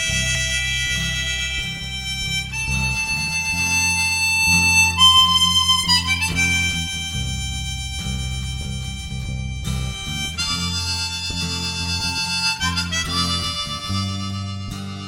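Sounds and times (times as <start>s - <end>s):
bass and guitar: 0.0s - 15.0s
harmonica melody: 0.0s - 15.0s.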